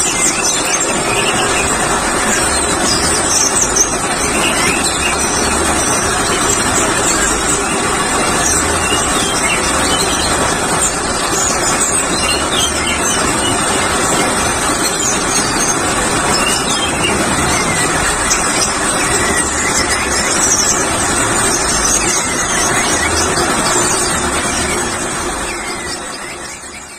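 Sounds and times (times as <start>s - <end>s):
chorus of songbirds: 0.0s - 26.9s
loud background noise: 0.0s - 26.9s
thrush singing: 0.0s - 26.9s.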